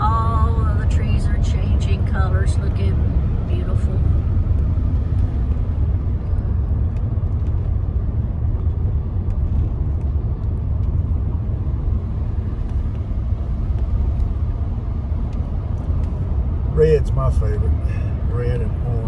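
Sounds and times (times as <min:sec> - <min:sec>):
car cabin engine and road noise: 0:00.0 - 0:19.0.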